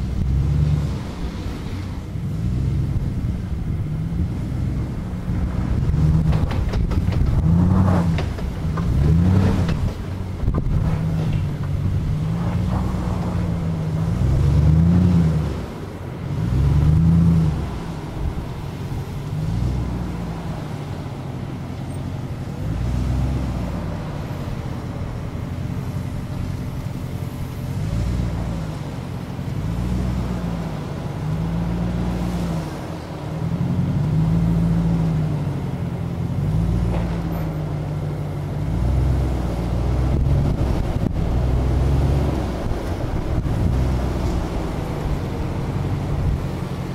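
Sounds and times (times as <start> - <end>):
engine revving: 0.0 - 46.9.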